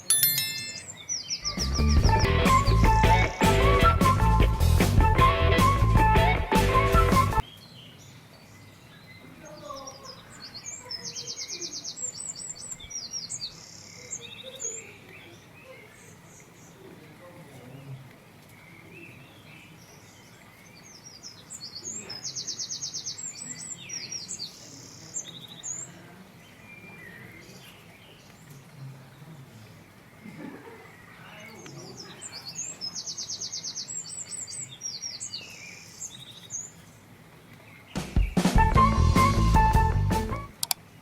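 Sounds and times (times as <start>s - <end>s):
songbird chirping and trilling: 0.0s - 3.4s, 7.4s - 17.1s, 17.8s - 30.3s, 30.9s - 39.7s
faint outdoor ambience: 0.0s - 41.0s.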